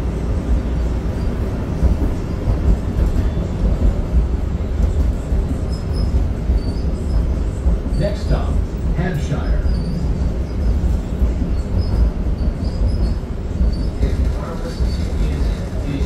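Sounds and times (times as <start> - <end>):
light-rail car rumbling: 0.0 - 16.0.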